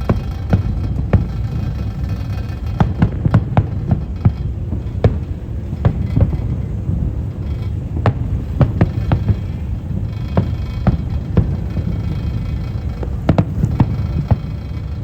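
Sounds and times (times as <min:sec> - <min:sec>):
fireworks bangs: 0:00.0 - 0:15.0
low booming rumble: 0:00.0 - 0:15.0.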